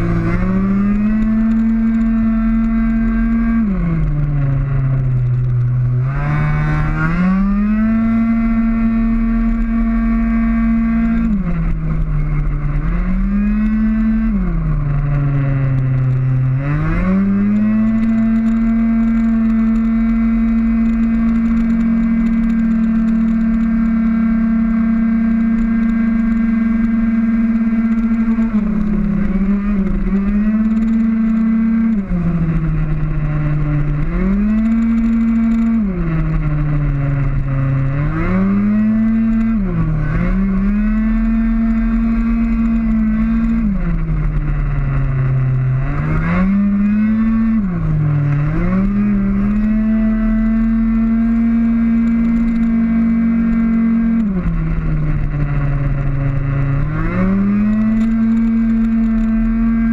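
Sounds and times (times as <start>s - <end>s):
two-stroke scooter engine racing: 0.0s - 59.9s.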